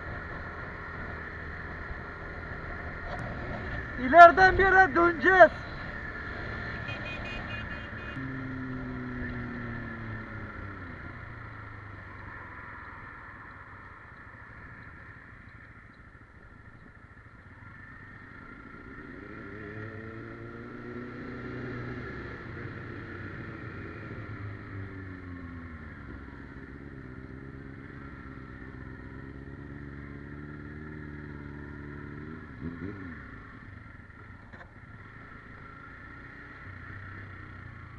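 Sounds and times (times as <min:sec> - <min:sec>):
motorcycle engine: 0:00.0 - 0:37.9.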